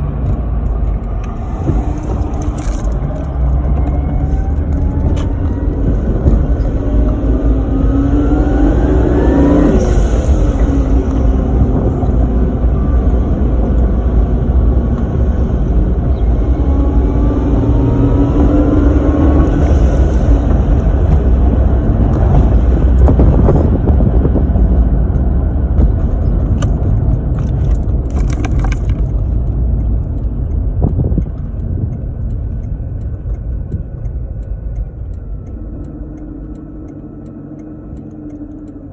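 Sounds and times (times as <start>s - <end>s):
car engine under load: 0.0s - 38.9s
supercharger whine: 0.0s - 38.9s.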